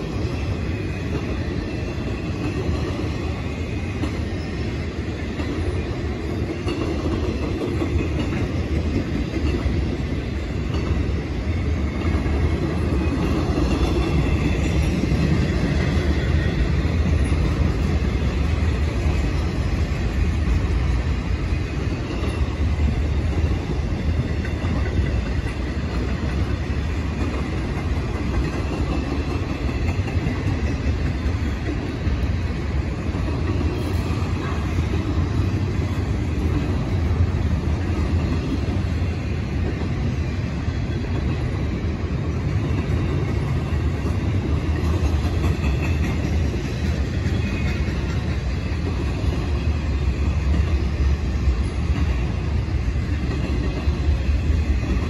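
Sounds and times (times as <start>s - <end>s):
freight train wheels rolling on rails: 0.0s - 55.0s.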